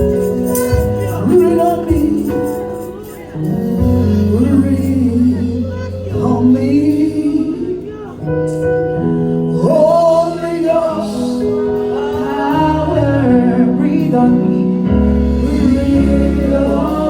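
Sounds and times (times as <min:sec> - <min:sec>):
deep bass line: 0:00.0 - 0:02.9, 0:03.5 - 0:07.7, 0:08.3 - 0:17.0
sustained keyboard chords: 0:00.0 - 0:17.0.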